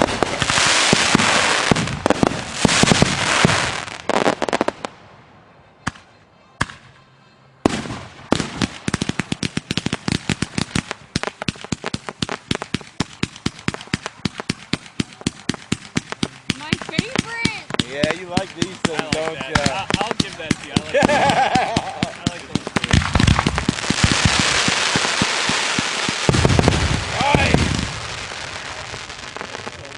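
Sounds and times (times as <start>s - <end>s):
fireworks sharp pops: 0.0s - 4.9s, 5.8s - 7.0s, 7.7s - 29.9s
fireworks crackling and bursts: 0.0s - 5.2s, 7.6s - 29.9s.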